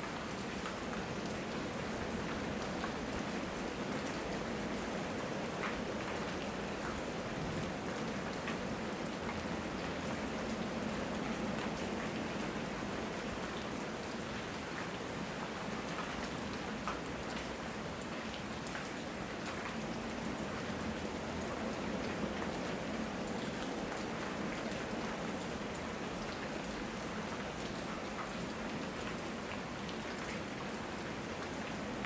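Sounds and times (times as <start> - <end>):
raindrops ticking on surfaces: 0.0 - 32.0
steady rain hiss: 0.0 - 32.0.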